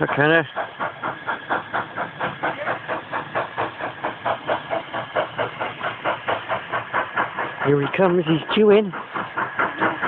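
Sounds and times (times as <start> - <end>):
steam locomotive chuffing: 0.0 - 10.0.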